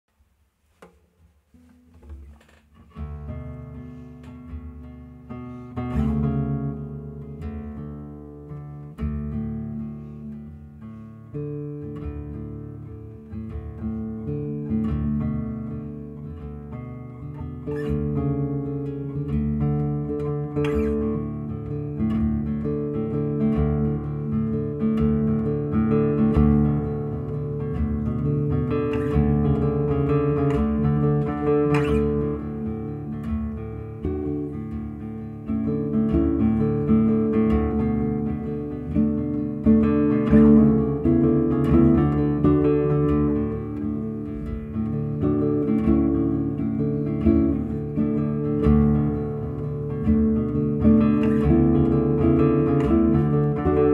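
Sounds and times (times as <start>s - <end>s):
plucked acoustic guitar: 0.6s - 53.9s.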